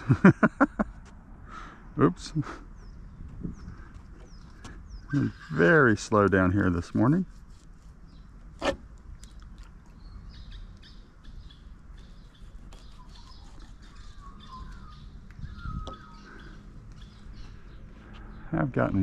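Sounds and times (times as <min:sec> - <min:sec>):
low background rumble: 0:00.0 - 0:19.0
small birds chirping: 0:01.6 - 0:19.0.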